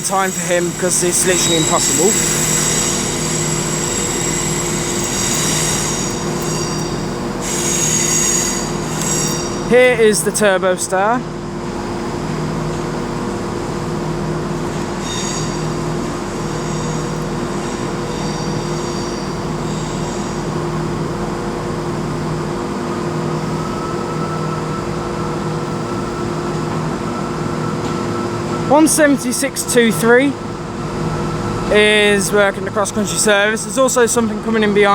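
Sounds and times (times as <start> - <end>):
high-pitched squeals: 0.0 - 10.7, 14.7 - 21.3, 22.0 - 34.9
diesel train engine drone: 0.0 - 34.9.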